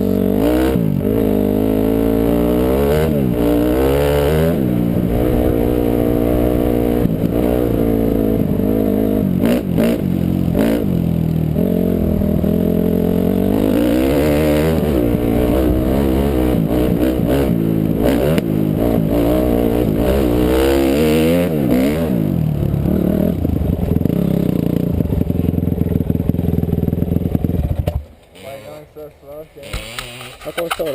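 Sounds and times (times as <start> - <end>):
motorcycle engine revving: 0.0 - 28.9, 29.6 - 30.9.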